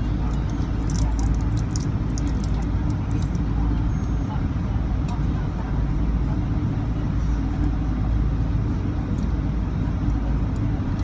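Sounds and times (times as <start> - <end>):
aircraft engines low rumble: 0.0 - 11.0.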